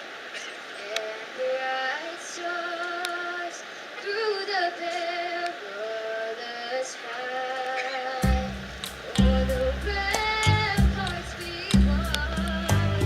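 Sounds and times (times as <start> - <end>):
woman singing: 0.8 - 13.0.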